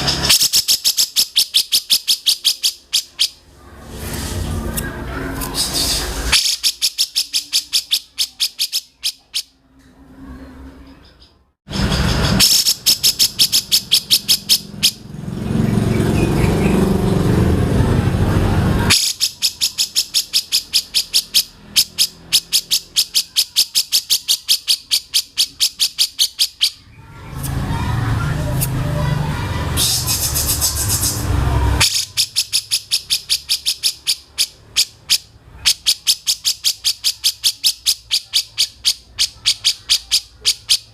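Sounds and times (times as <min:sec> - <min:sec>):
sharp high bird chips: 0:00.0 - 0:09.6, 0:11.7 - 0:17.0, 0:18.9 - 0:27.5, 0:29.7 - 0:40.9.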